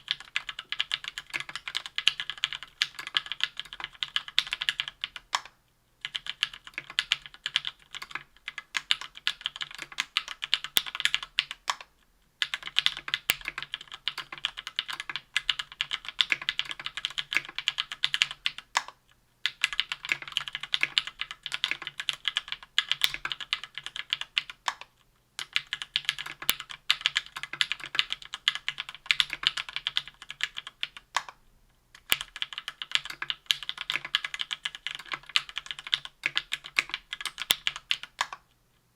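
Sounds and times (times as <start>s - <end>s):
typing on mechanical keyboard: 0.0s - 31.4s, 32.0s - 38.4s.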